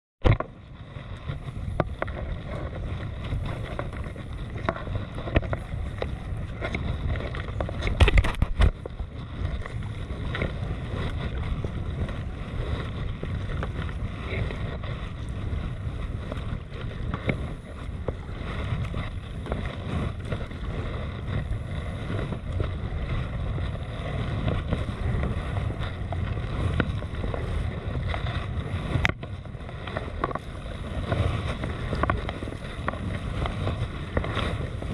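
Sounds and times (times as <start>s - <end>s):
water lapping and splashing: 0.2s - 34.9s
wind noise on microphone: 0.2s - 34.9s.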